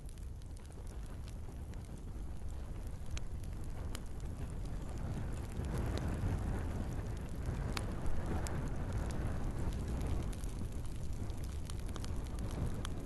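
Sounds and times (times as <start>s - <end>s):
burning wood crackling and popping: 0.0s - 13.0s
log fire flames rushing: 0.0s - 13.0s.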